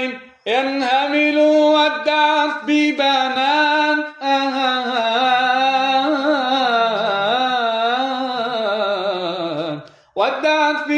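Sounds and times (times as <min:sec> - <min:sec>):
man chanting melismatic singing: 0:00.0 - 0:10.9.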